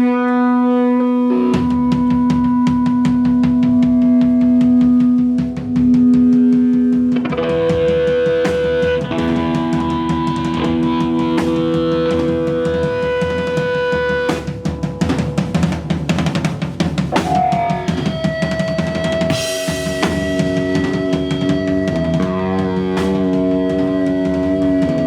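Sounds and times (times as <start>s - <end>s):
sustained guitar notes: 0.0s - 25.0s
drum kit playing: 1.5s - 25.0s.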